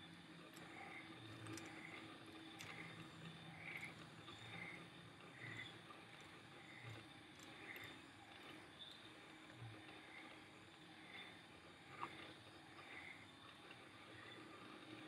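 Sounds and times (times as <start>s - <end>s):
faint rain hiss: 0.0s - 15.0s.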